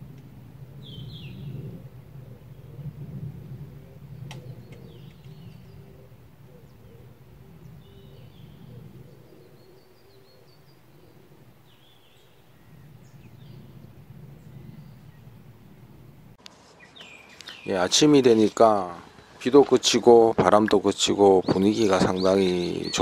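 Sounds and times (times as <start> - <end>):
low outdoor rumble: 0.0 - 22.9
birds chirping: 0.5 - 23.0.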